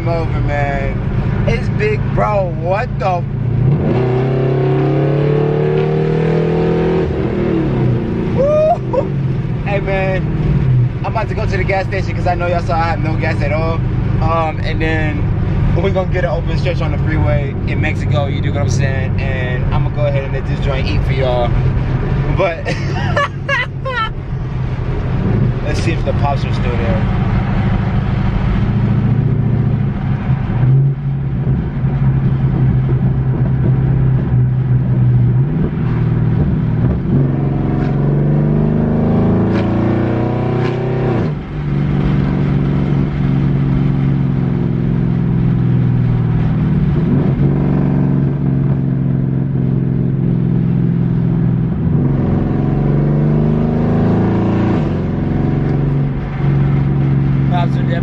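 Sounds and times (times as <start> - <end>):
car exhaust drone: 0.0 - 58.0
engine accelerating hard: 0.0 - 58.0.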